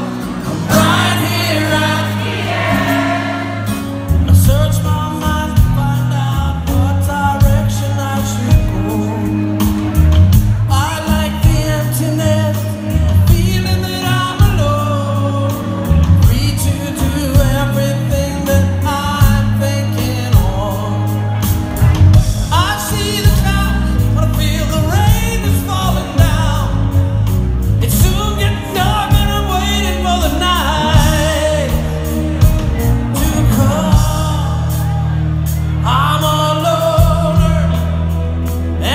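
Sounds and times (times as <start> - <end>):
person singing lead vocal: 0.0 - 9.9, 10.7 - 21.4, 22.5 - 38.9
live rock band: 0.0 - 38.9.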